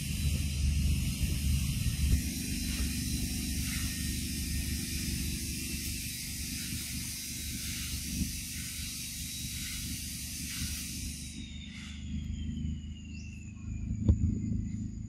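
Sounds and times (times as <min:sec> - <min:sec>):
forest insects droning: 0:00.0 - 0:15.0
low rumble: 0:00.0 - 0:15.0.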